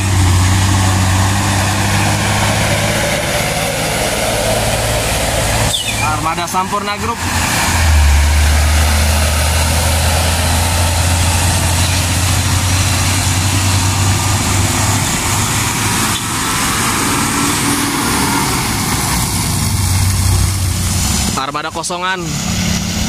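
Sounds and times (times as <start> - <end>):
truck diesel engines droning: 0.0 - 23.0.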